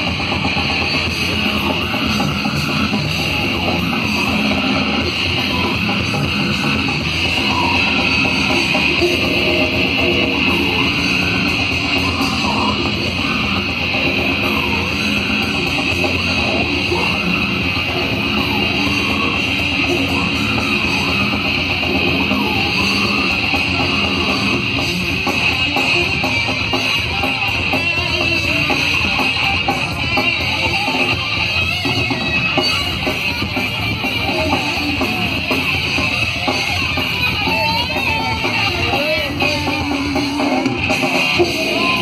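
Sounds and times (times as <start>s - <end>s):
distorted electric guitars: 0.0s - 42.0s
drum kit: 0.0s - 42.0s.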